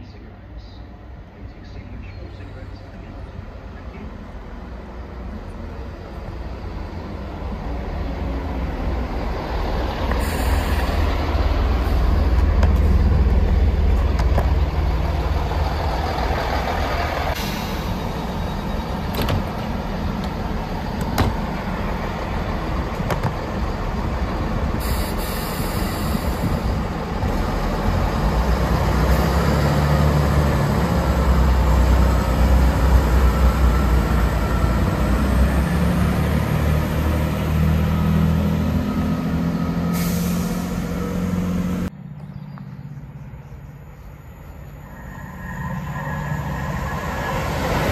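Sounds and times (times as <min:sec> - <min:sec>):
diesel train engine rumbling: 0:00.0 - 0:47.9.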